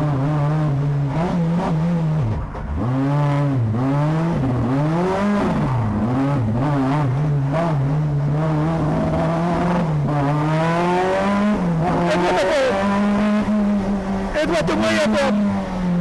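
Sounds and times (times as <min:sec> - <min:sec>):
rally car engine revving hard: 0:00.0 - 0:16.0.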